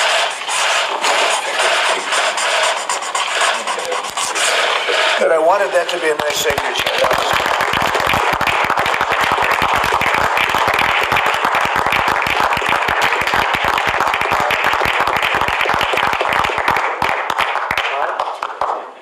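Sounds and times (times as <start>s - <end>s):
people applauding: 3.2s - 19.0s.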